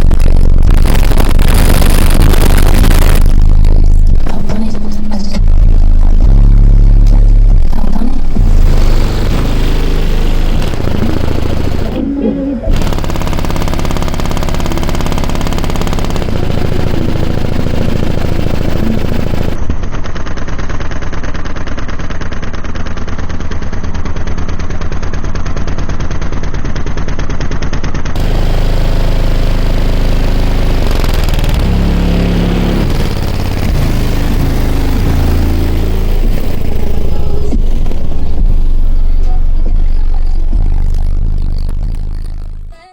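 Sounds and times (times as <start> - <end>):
fast rattling pulse: 0.0 - 6.4, 7.4 - 42.7
loud bass through car subwoofers: 0.0 - 27.6, 28.2 - 42.9.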